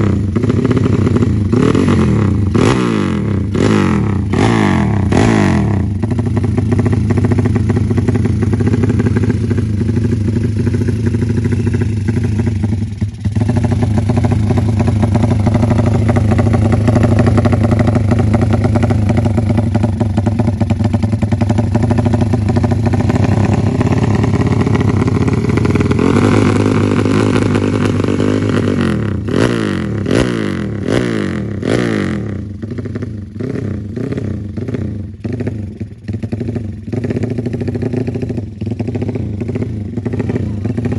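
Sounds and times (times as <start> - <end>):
motorcycle engine idling and revving: 0.0 - 40.9
motorcycle throttle blips: 0.0 - 40.9.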